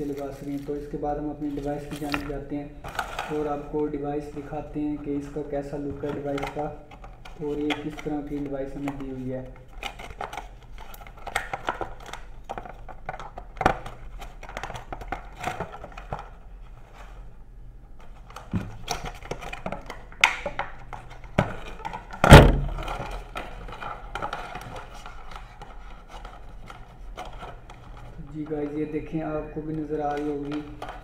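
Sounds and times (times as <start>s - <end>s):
plastic packaging rustling: 0.0s - 17.2s, 18.0s - 31.0s.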